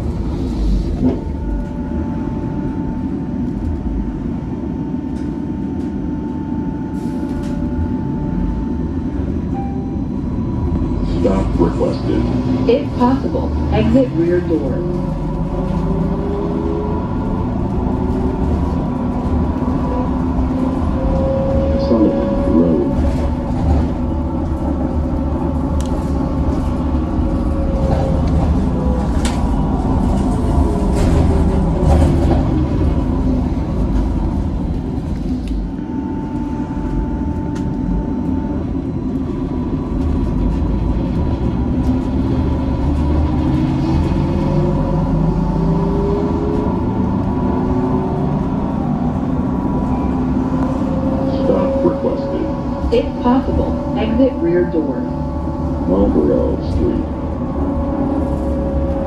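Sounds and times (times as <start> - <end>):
bus cabin rumble: 0.0 - 59.0.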